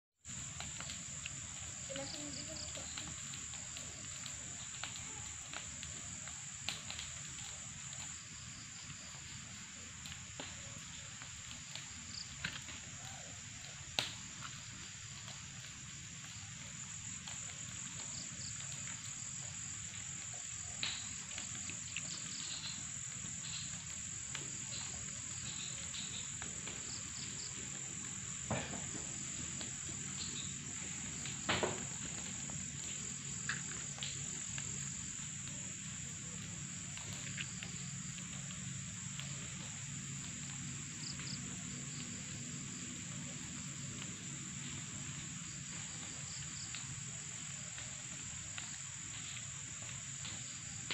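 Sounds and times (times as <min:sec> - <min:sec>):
insect chirring: 0:00.3 - 0:50.9.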